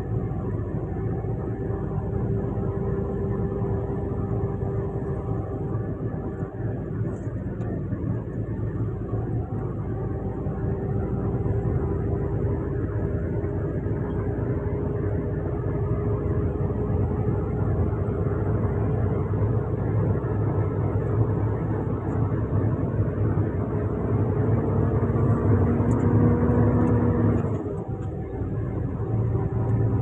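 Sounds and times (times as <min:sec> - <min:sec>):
road noise inside cab: 0:00.0 - 0:30.0
vehicle engine humming: 0:00.0 - 0:30.0.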